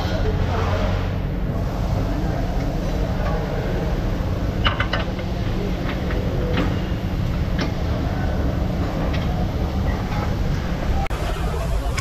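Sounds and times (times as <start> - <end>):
low rumble of repair shop: 0.0 - 12.0.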